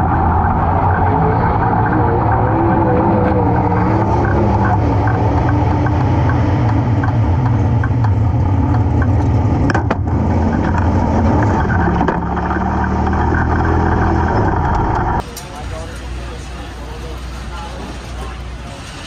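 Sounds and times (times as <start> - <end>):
race car engine rumbling: 0.0 - 19.0.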